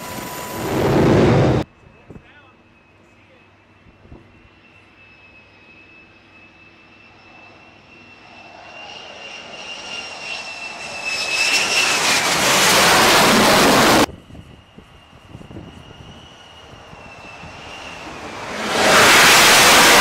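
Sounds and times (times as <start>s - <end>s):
jet engine whine and rush: 0.0s - 20.0s.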